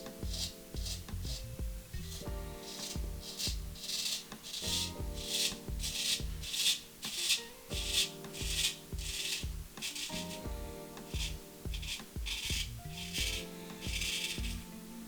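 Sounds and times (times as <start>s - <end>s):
background music with low beat: 0.0s - 15.0s
straight razor scraping stubble: 2.2s - 14.7s.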